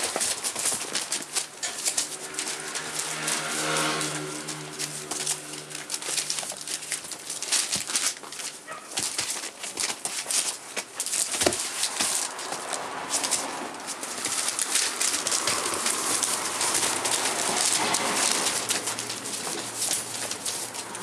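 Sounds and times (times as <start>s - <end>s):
newspaper rustling and crinkling: 0.0s - 21.0s
puppy claws scratching and tapping: 0.0s - 21.0s.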